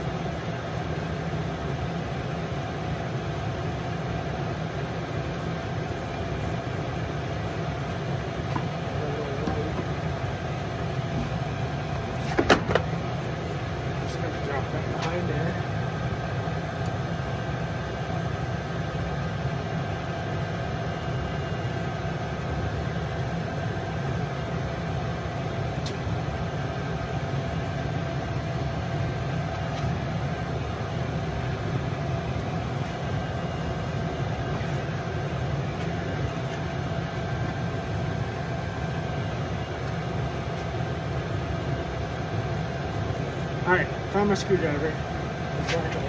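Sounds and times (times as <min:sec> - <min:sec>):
faint steady whine: 0:00.0 - 0:46.0.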